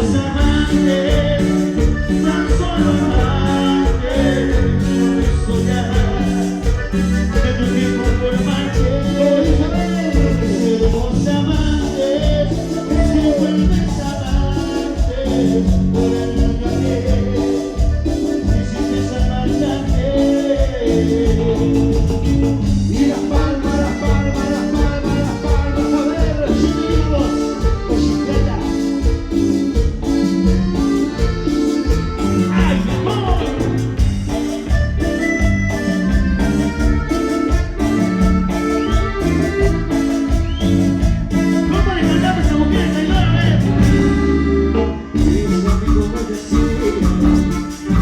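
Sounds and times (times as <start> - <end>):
live band playing dance music: 0.0 - 48.0
organ-toned keyboard lead: 0.0 - 48.0.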